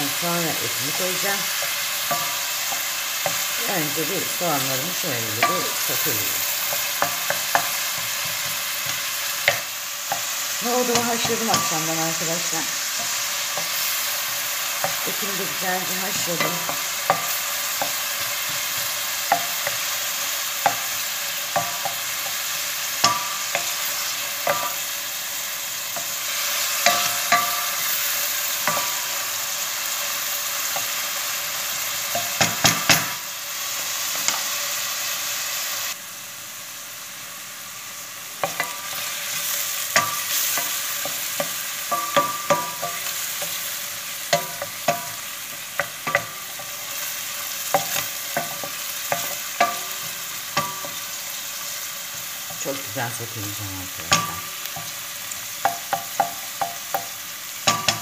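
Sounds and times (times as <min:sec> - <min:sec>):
onions sizzling in oil: 0:00.0 - 0:58.0.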